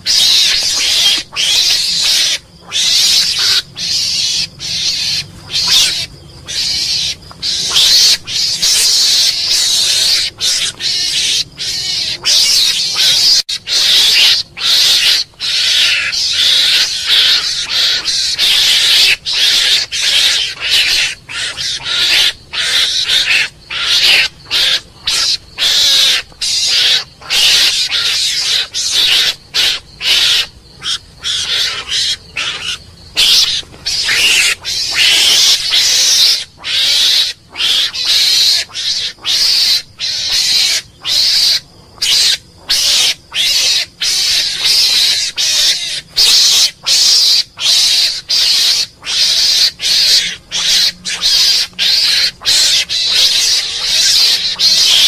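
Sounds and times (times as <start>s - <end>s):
mongoose calling: 0.0s - 55.0s.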